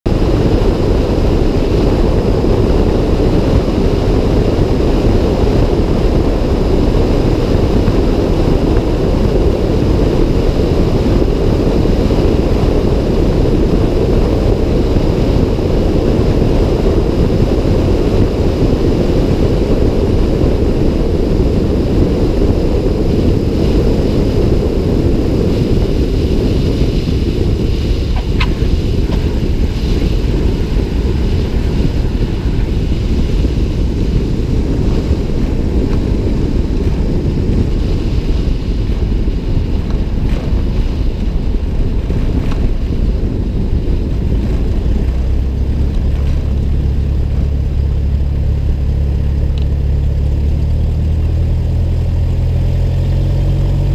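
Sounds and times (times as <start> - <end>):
airplane engine and propeller droning: 0.0 - 53.9
wind rushing over camera: 0.0 - 53.9.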